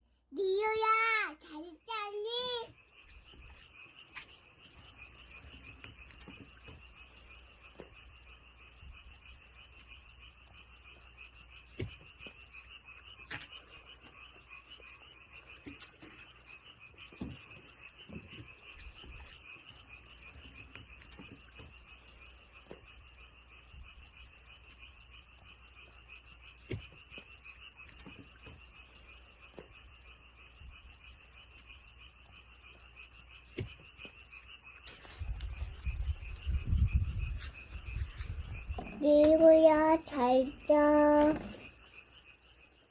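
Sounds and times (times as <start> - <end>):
frog trilling: 2.3 - 42.9.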